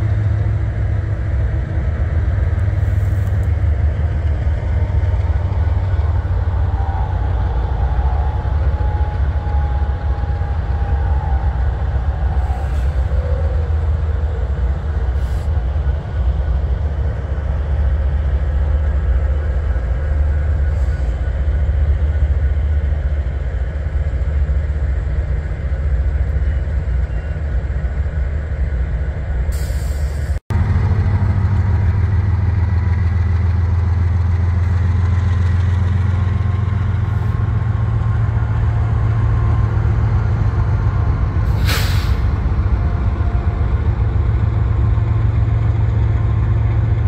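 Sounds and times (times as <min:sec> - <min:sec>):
diesel locomotives rumbling: 0:00.0 - 0:47.0.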